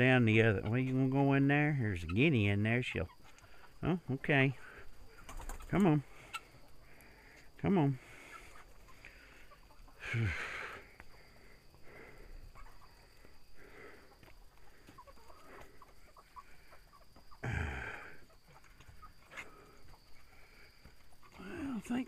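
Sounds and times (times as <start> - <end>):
hens clucking softly: 0.1 - 22.0.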